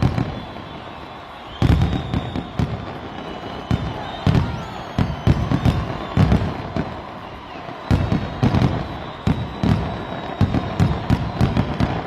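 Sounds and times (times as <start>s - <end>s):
fireworks bangs and booms: 0.0s - 12.0s
fireworks whistling: 0.0s - 12.0s.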